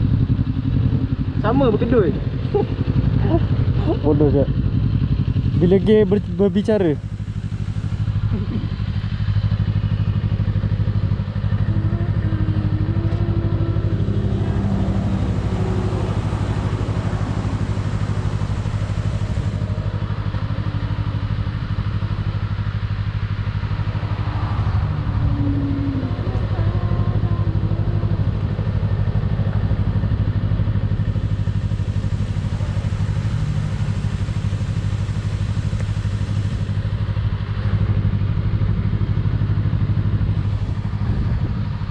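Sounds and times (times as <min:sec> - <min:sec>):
motorcycle exhaust drone: 0:00.0 - 0:41.9.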